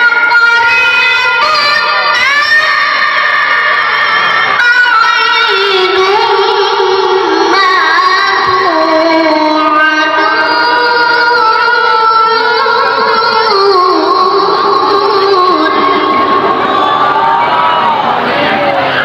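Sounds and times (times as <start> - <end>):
boy reciting melodically: 0.0 - 16.6.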